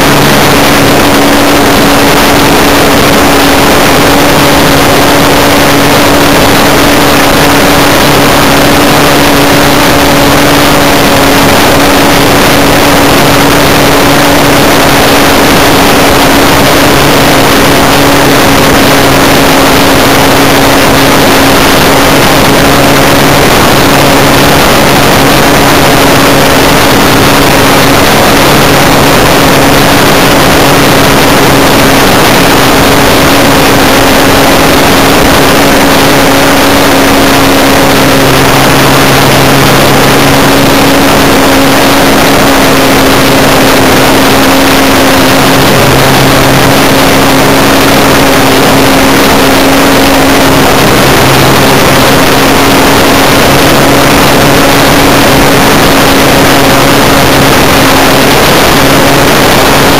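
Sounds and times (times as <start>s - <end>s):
model plane engine running: 0.0s - 59.9s
rush of air and propeller: 0.0s - 59.9s.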